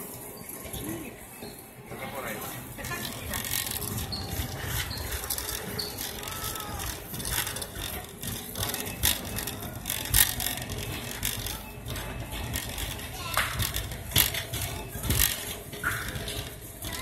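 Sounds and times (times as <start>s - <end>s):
shopping cart rattling: 2.2s - 17.0s.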